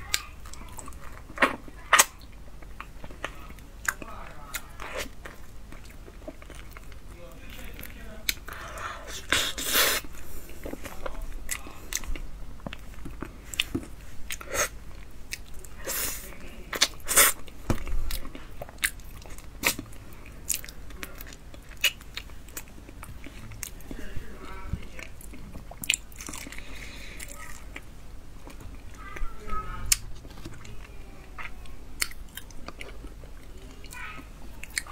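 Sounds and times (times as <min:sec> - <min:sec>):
person chewing: 0:00.0 - 0:34.9.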